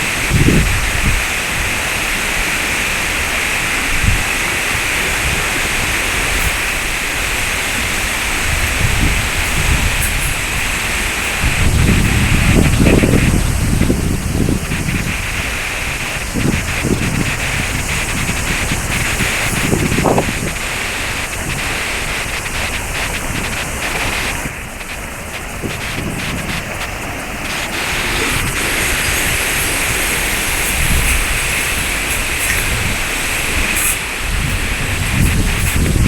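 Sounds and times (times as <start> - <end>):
waterfall rushing: 0.0 - 36.0
wind buffeting microphone: 0.0 - 36.0.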